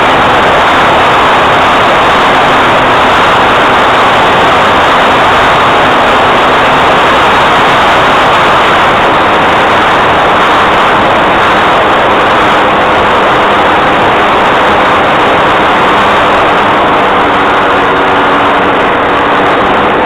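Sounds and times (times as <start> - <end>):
propeller plane drone: 0.0 - 20.0.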